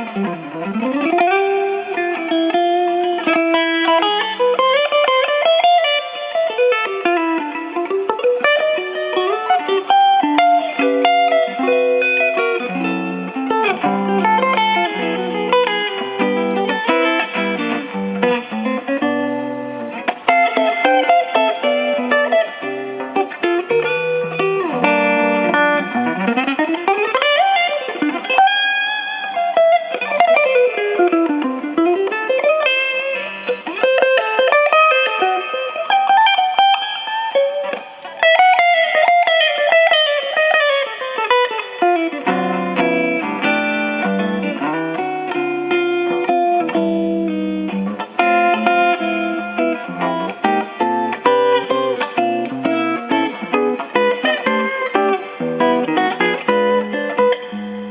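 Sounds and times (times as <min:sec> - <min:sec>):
solo guitar playing: 0:00.0 - 0:57.9.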